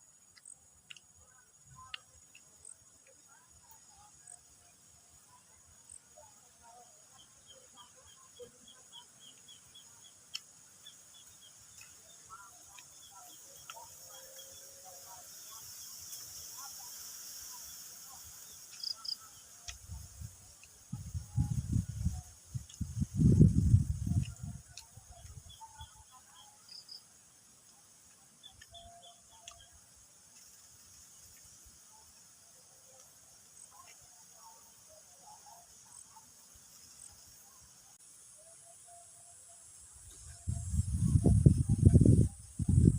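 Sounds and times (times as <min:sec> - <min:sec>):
crickets chirping: 0:00.0 - 0:42.9
high insect drone: 0:00.0 - 0:42.9.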